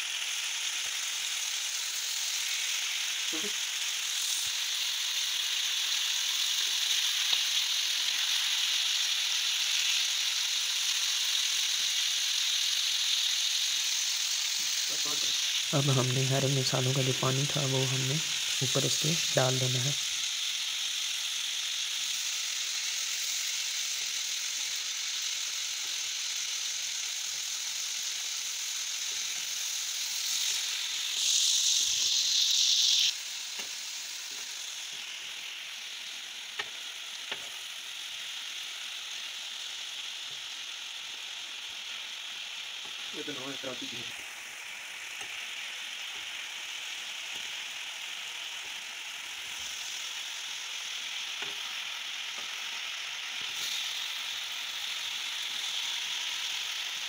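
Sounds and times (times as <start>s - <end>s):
meat sizzling on a griddle: 0.0s - 57.0s.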